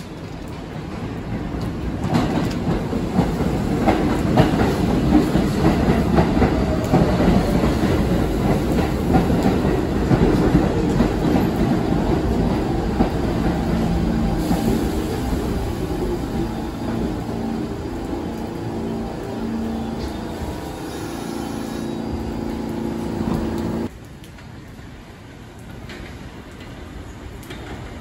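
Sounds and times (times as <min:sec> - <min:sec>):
subway train wheels clacking: 0:00.0 - 0:23.9, 0:25.6 - 0:28.0.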